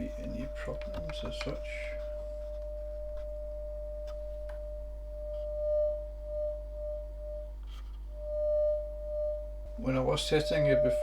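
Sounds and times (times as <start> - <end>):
faint low hum: 0.0 - 11.0
sine test tone: 0.0 - 11.0.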